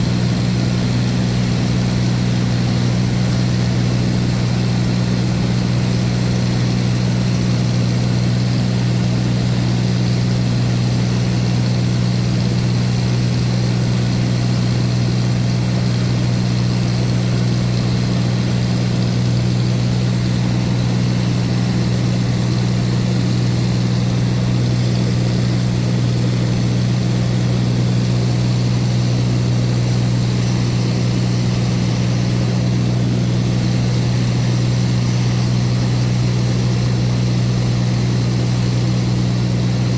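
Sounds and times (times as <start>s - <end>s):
propeller aircraft engine in cabin: 0.0s - 39.9s.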